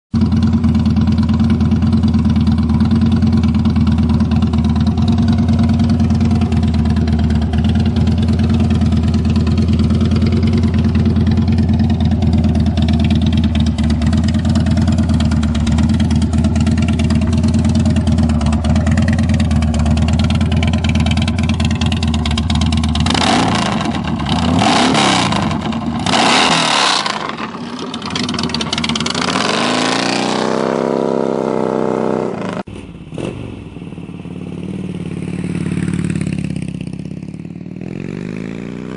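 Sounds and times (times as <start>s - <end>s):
motorcycle engine idling: 0.2s - 26.4s, 27.0s - 29.4s, 32.9s - 38.9s.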